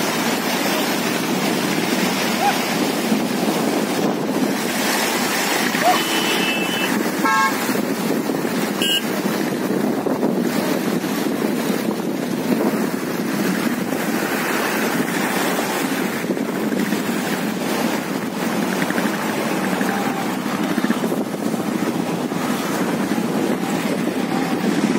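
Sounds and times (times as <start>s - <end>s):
stream rushing over stones: 0.0s - 24.9s.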